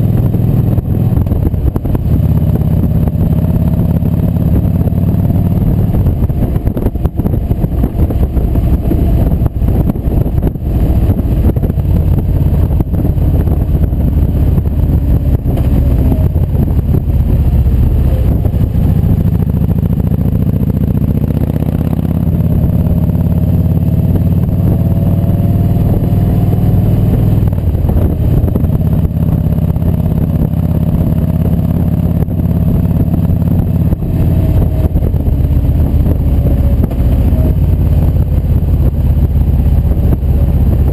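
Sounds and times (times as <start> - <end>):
motorcycle engine cruising: 0.0 - 40.9
wind buffeting microphone: 0.0 - 40.9.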